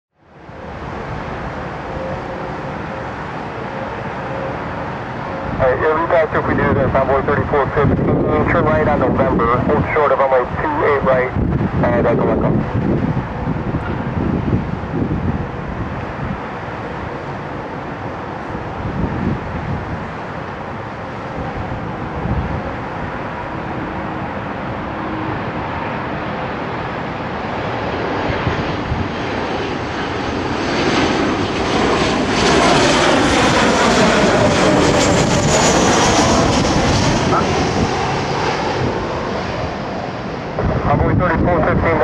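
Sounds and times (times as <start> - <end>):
jet engine rush: 0.3 - 42.0.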